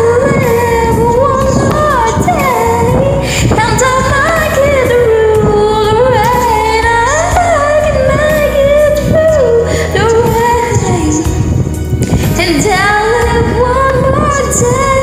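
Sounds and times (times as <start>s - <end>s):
pop ballad backing track: 0.0s - 15.0s.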